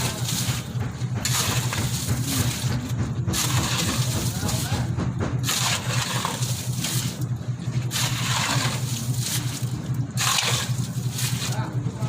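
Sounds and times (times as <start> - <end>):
engine pulsing hum: 0.0 - 12.0
gritty scraping or sloshing: 0.0 - 12.0.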